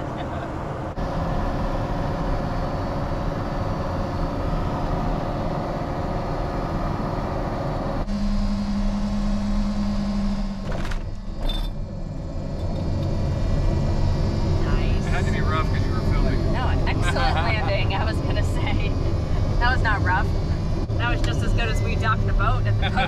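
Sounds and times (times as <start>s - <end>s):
engine humming at low power: 0.0s - 23.0s
propeller airplane engine droning: 0.0s - 23.0s.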